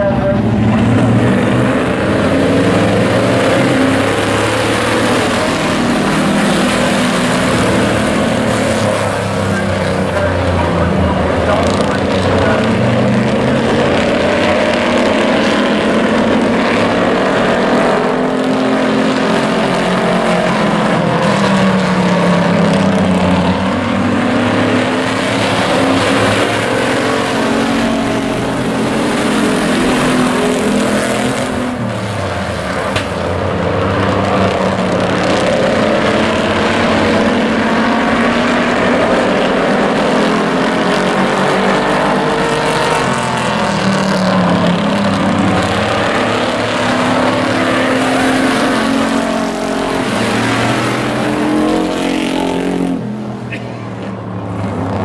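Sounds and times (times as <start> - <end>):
race truck engines: 0.0 - 55.0.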